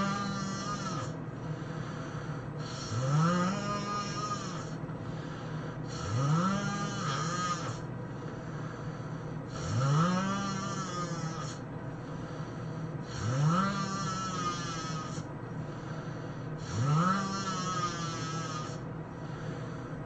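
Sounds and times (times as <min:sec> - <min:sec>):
person snoring heavily: 0:00.0 - 0:19.9.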